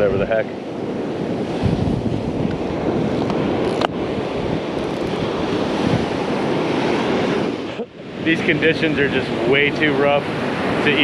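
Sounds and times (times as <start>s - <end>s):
rough surf breaking: 0.0s - 11.0s
wind buffeting microphone: 0.0s - 11.0s.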